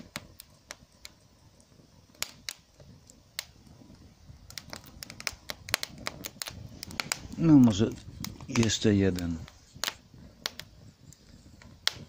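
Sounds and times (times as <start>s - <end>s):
low rumble of stove: 0.0s - 12.0s
wood crackling and popping in stove: 0.0s - 12.0s.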